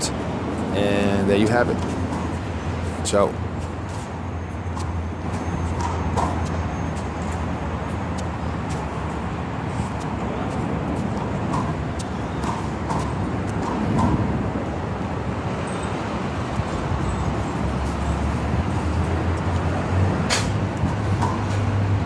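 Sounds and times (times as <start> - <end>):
low vehicle drone: 0.0 - 22.0
road traffic noise: 0.0 - 22.0.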